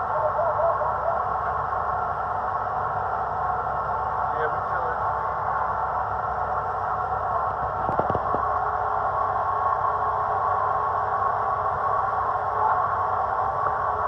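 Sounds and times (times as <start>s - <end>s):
boat engine running: 0.0s - 14.0s
wind: 0.0s - 14.0s.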